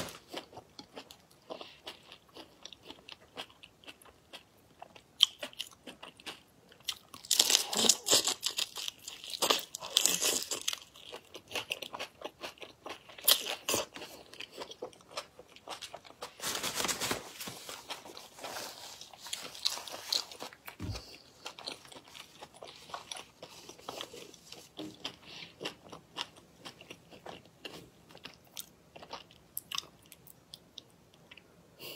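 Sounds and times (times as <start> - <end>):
crunching and chewing shrimp: 0.0 - 16.5, 17.6 - 31.5.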